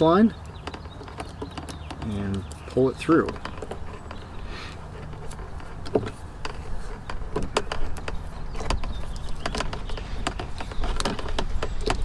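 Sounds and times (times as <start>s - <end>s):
tape clicking and rustling: 0.0s - 12.0s.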